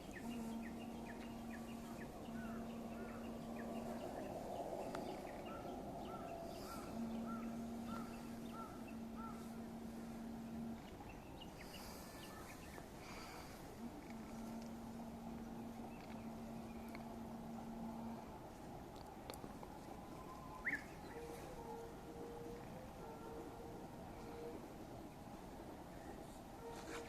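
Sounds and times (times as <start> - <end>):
birds chirping: 0.0 - 25.3
steady low drone: 0.0 - 27.0.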